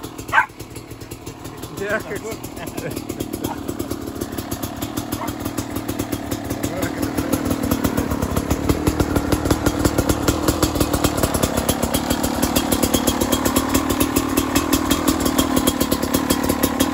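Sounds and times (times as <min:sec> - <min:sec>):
two-stroke engine idling: 0:00.0 - 0:16.9.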